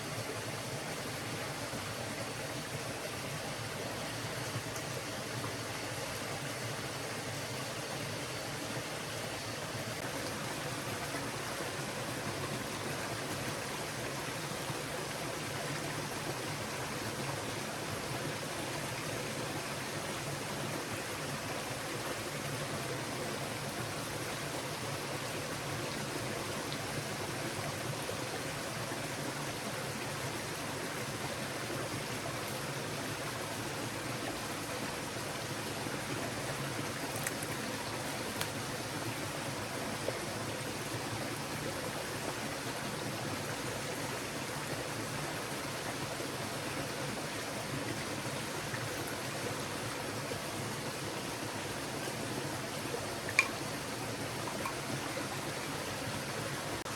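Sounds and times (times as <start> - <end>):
forest stream rushing: 0.0 - 56.9.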